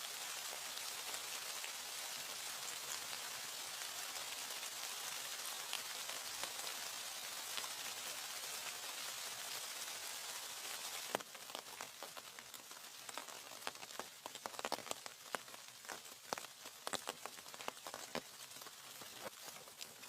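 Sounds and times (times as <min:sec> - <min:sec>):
rain hiss: 0:00.0 - 0:20.0
rainwater dripping: 0:00.0 - 0:20.0.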